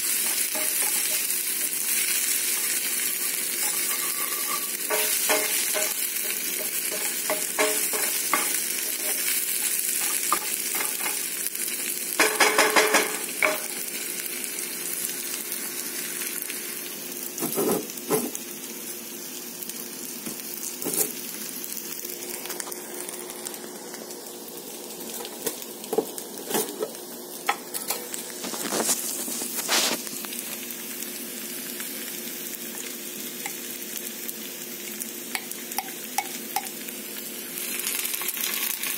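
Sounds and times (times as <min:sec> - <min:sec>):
onions sizzling in oil: 0:00.0 - 0:38.9.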